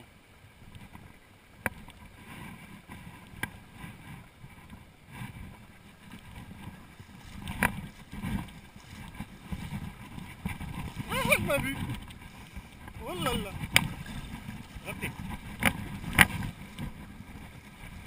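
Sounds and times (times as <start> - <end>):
mountain torrent rushing: 2.1 - 18.0.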